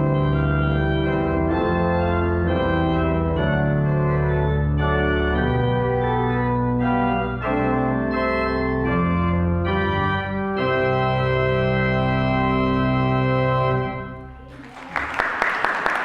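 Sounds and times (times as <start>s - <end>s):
organ playing sustained chords: 0.0s - 14.6s.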